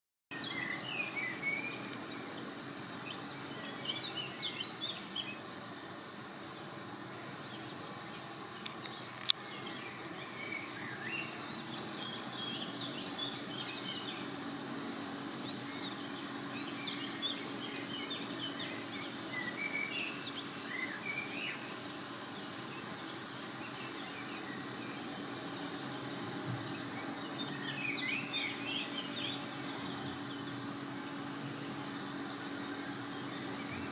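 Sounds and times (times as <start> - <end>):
songbirds chirping: 0.3 - 33.9.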